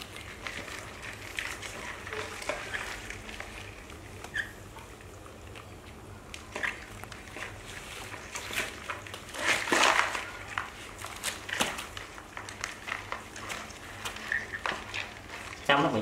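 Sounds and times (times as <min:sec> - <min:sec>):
crabs scrabbling on plastic: 0:00.0 - 0:16.0.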